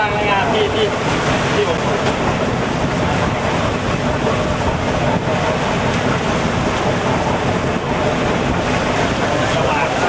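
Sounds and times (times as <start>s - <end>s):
waves breaking and surging: 0.0s - 10.0s
wind buffeting microphone: 0.0s - 10.0s.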